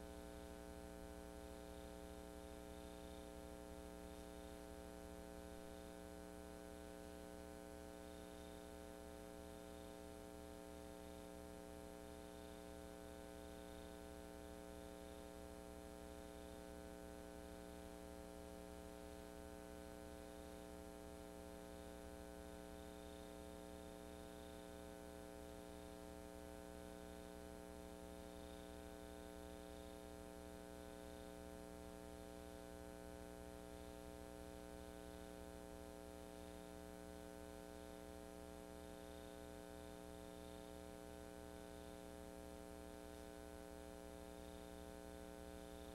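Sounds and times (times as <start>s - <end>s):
faint electrical hum with hiss: 0.0s - 45.9s.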